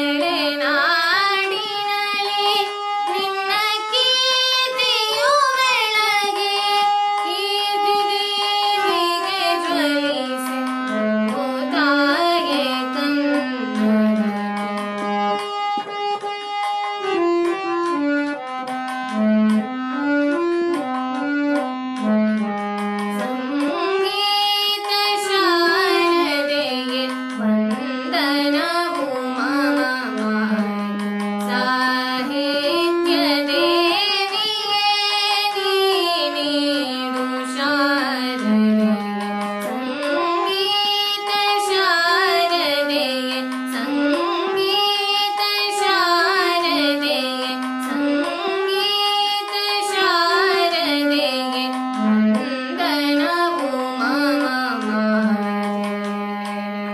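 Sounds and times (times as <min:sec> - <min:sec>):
woman singing: 0:00.0 - 0:14.3, 0:23.2 - 0:55.5
harmonium: 0:00.0 - 0:56.9.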